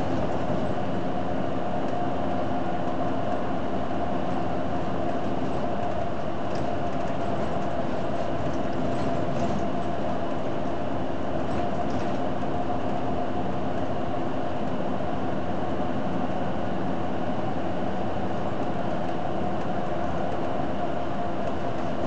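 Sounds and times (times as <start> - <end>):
bus drivetrain hum: 0.0 - 22.0.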